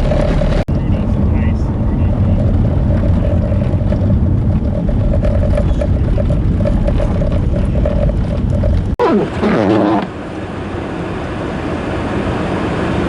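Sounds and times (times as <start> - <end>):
vehicle rumble with road noise: 0.0 - 13.0
wind noise: 0.0 - 13.0.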